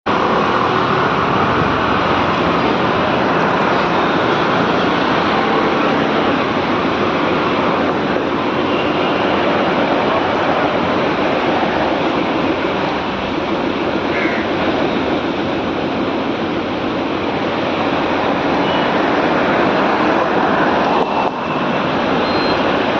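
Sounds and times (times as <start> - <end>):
road noise: 0.0 - 22.9
vehicle engine noise: 0.1 - 22.9
wind noise: 0.1 - 22.9.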